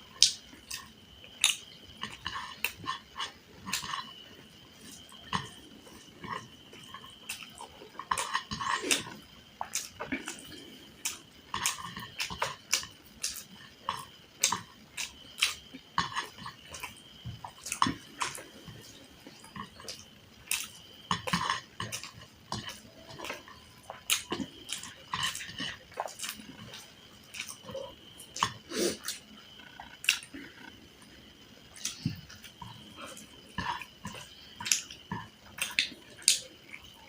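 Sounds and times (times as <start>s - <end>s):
person chewing and lip-smacking: 0.2s - 37.0s.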